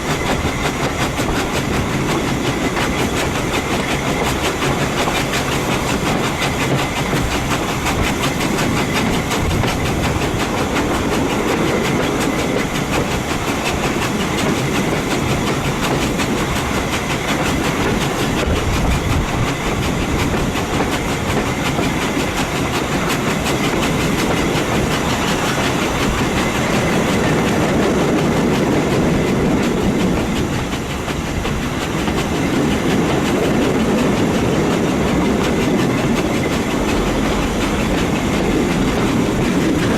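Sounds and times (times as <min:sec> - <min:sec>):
train wheels clattering on track: 0:00.0 - 0:39.9.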